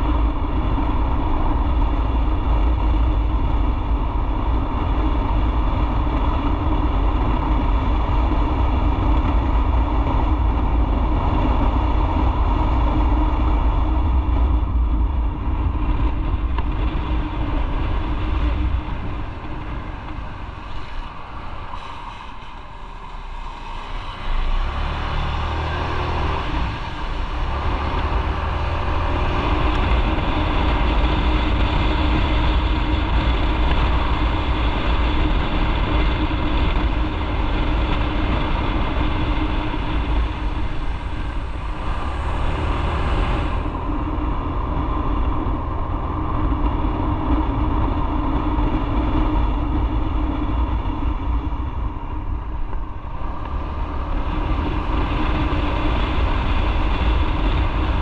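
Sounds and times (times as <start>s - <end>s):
motorcycle engine rumble: 0.0s - 58.0s.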